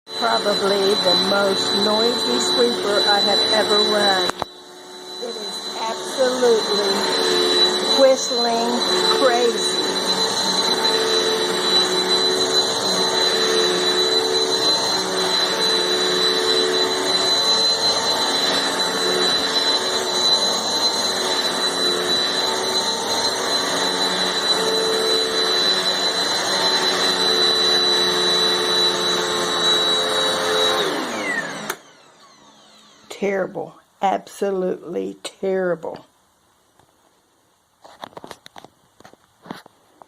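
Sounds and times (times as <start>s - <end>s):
vacuum cleaner motor: 0.1s - 33.6s.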